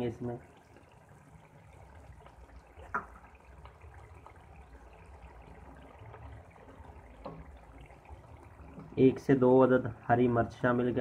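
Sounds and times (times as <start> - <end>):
sauce simmering in a wok: 0.0 - 10.7.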